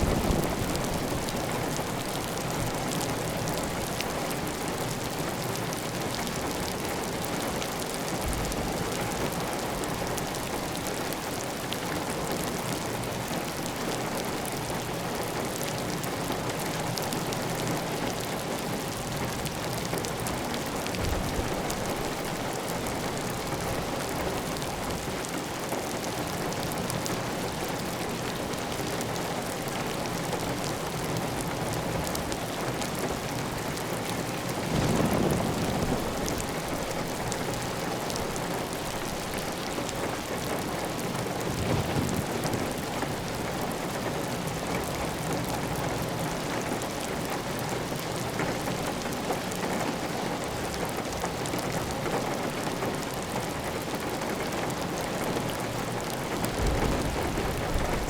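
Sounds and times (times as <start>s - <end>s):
heavy rain on a tile roof: 0.0s - 58.0s.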